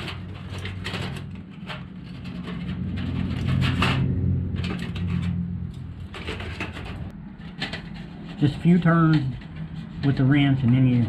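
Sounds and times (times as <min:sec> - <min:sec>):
metal scraping and clicking: 0:00.0 - 0:11.0.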